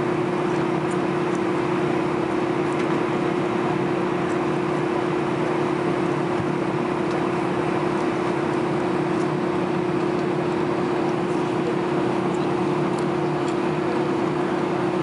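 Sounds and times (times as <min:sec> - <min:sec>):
jet engine hum in cabin: 0:00.0 - 0:15.0.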